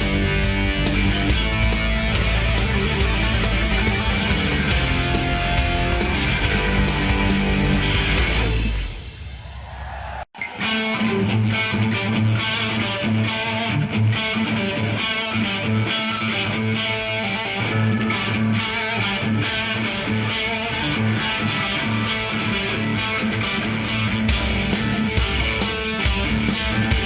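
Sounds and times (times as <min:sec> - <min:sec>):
electric guitar riff: 0:00.0 - 0:09.3, 0:10.4 - 0:27.0
bass: 0:00.0 - 0:10.2, 0:11.0 - 0:27.0
drums: 0:00.0 - 0:27.0.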